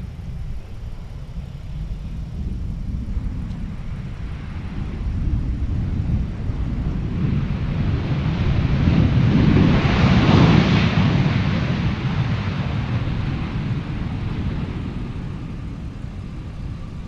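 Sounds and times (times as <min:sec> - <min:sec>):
jet engines of landing airliner: 0:00.0 - 0:17.0.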